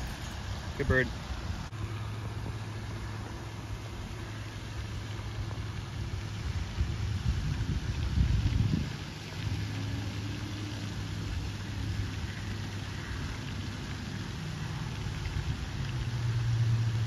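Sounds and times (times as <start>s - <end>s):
fountain water splashing: 0.0s - 17.0s
low steady hum: 0.0s - 17.0s.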